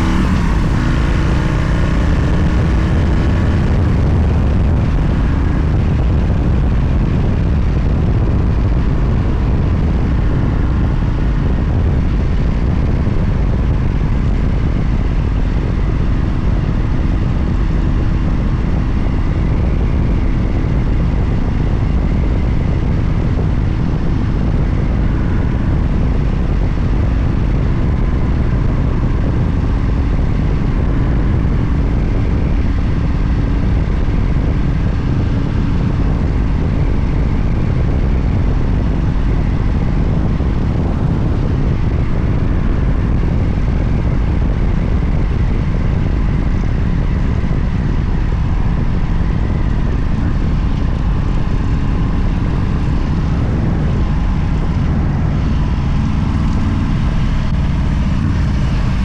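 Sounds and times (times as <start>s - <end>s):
motorcycle engine drone: 0.0s - 59.0s
wind rushing over microphone: 0.0s - 59.0s.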